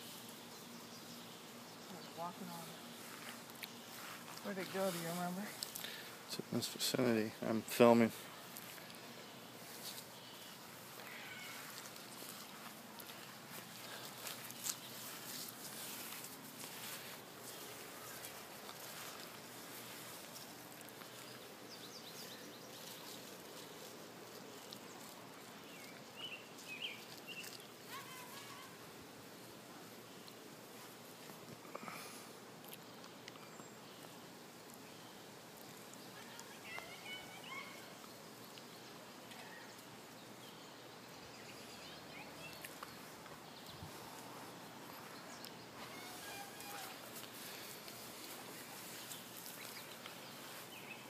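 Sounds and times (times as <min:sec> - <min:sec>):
low outdoor background hiss: 0:00.0 - 0:51.0.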